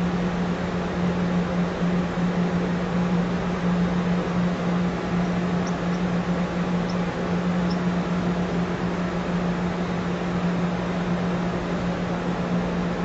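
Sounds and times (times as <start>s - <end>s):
train idling hum: 0.0s - 13.0s.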